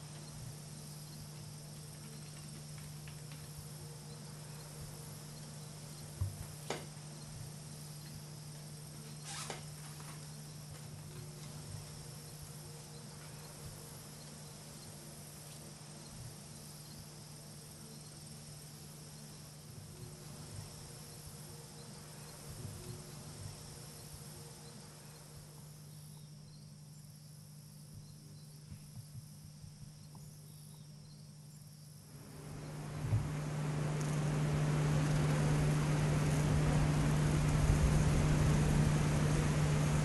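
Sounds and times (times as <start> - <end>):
faint high-pitched hiss: 0.0 - 40.0
steady low hum: 0.0 - 40.0.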